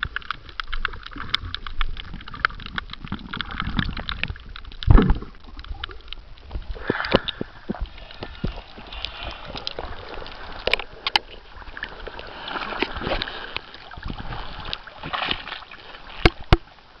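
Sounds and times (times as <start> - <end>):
water sloshing and splashing: 0.0 - 17.0.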